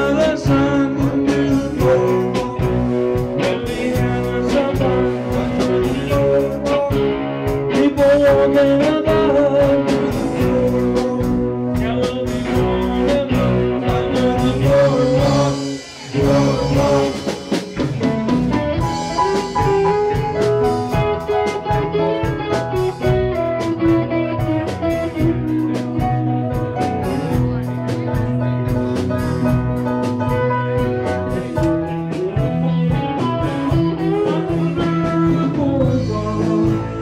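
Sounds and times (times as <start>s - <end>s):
bass guitar: 0.0s - 37.0s
drum kit: 0.0s - 37.0s
electric guitars: 0.0s - 37.0s
keyboard: 0.0s - 37.0s.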